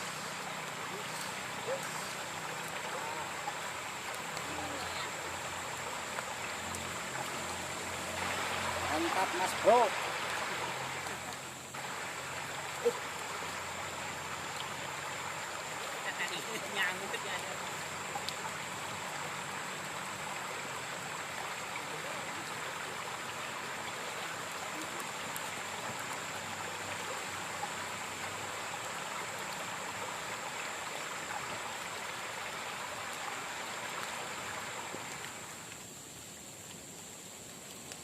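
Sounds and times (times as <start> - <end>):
river water flowing over stones: 0.0 - 38.0.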